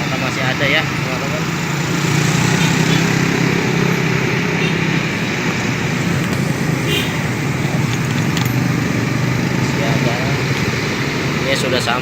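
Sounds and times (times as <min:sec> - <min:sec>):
road and traffic noise: 0:00.0 - 0:12.0
vehicle engine humming: 0:00.0 - 0:12.0.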